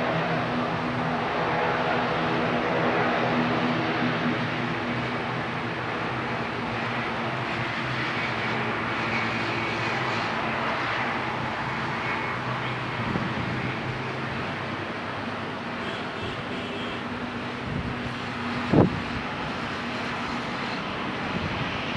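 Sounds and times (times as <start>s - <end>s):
jet engines rushing: 0.0s - 21.9s.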